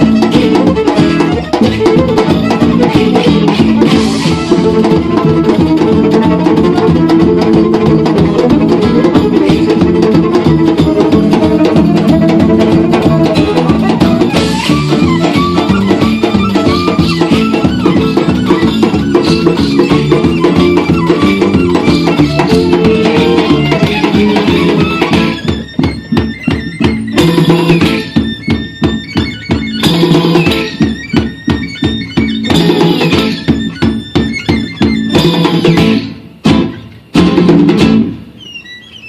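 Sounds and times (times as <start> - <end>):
percussion: 0.0 - 38.4
fiddle melody: 0.0 - 39.0
guitar: 0.0 - 39.0.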